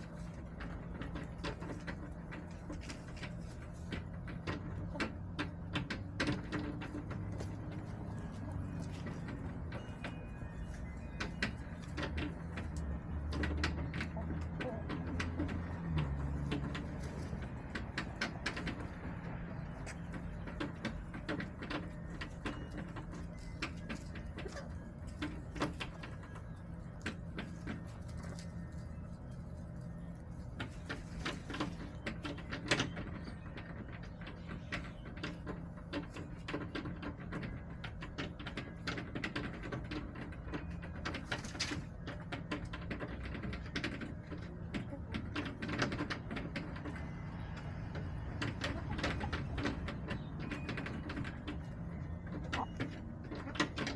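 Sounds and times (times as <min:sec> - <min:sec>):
chickens pecking and scratching: 0:00.0 - 0:53.9.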